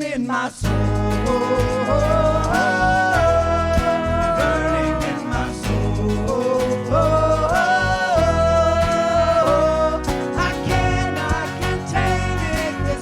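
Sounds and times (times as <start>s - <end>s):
worship band music: 0.6s - 13.0s.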